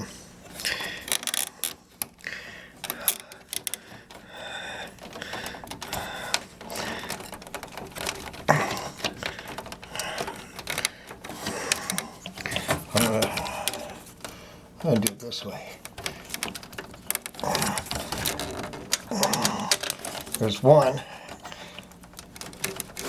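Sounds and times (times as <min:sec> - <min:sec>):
metal and plastic clicks and rattles: 0:00.0 - 0:23.0.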